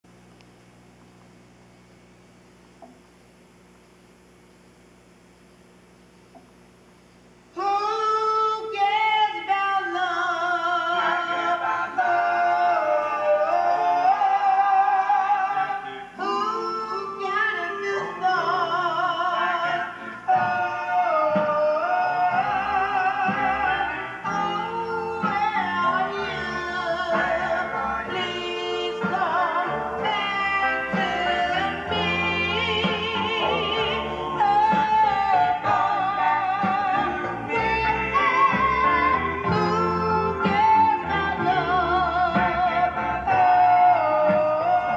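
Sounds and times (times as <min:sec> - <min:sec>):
recorded music with vibrato singing: 0:06.4 - 0:44.9.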